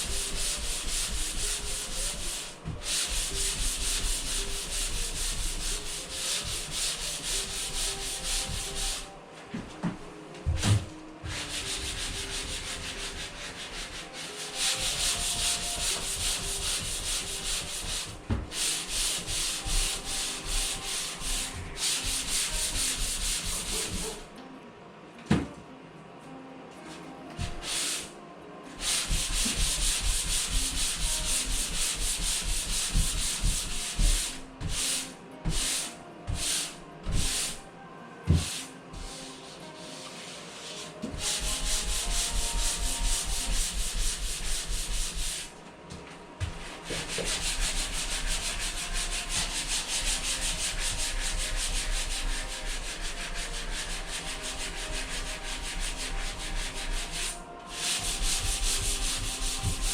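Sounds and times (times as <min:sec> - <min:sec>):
sanding drywall: 0:00.0 - 0:09.1, 0:10.4 - 0:24.3, 0:27.4 - 0:28.1, 0:28.8 - 0:37.6, 0:38.3 - 0:45.5, 0:46.4 - 0:59.9.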